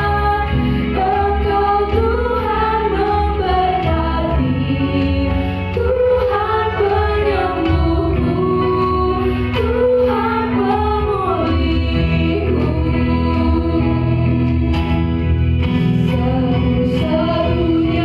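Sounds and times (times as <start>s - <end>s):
person singing lead vocals: 0.0s - 18.0s.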